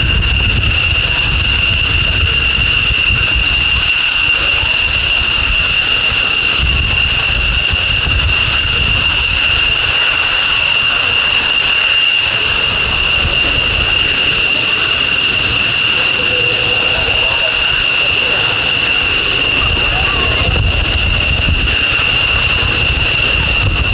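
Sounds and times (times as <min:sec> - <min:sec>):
jet engines whining: 0:00.0 - 0:23.9
low engine rumble: 0:00.0 - 0:23.9.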